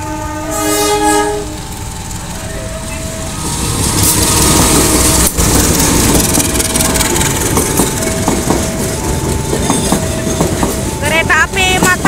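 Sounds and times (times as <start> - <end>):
passing train rumble: 0.0 - 12.0.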